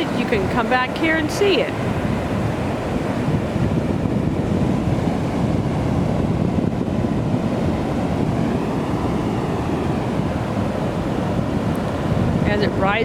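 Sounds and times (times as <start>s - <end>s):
ocean surf washing onto beach: 0.0s - 13.0s
wind on microphone: 0.0s - 13.0s.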